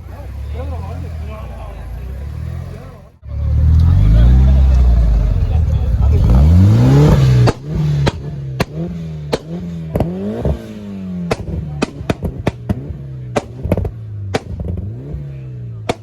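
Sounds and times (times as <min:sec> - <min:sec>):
car engine revving: 0:00.0 - 0:16.0
loud sharp exhaust bangs: 0:02.3 - 0:16.0.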